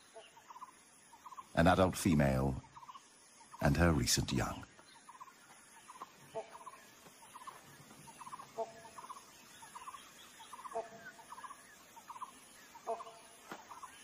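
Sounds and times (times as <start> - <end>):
lower bird call: 0.0 - 14.0.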